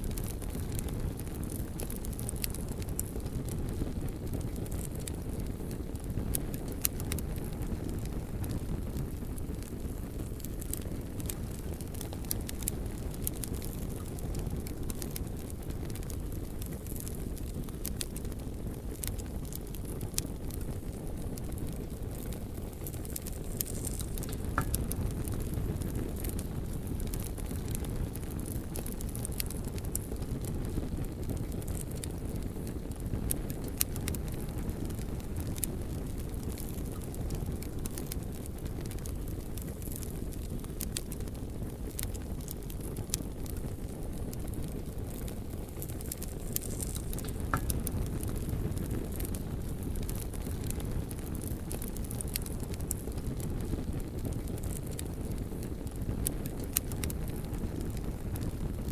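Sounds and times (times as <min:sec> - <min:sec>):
fire crackling and popping: 0:00.0 - 0:58.9
wood fire roaring: 0:00.0 - 0:58.9.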